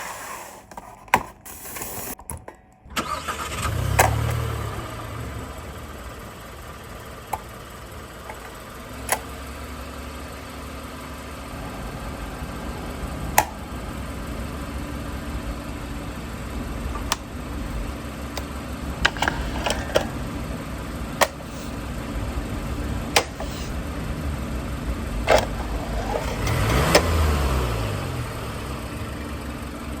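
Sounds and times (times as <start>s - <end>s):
car engine starting and idling: 2.8s - 30.0s.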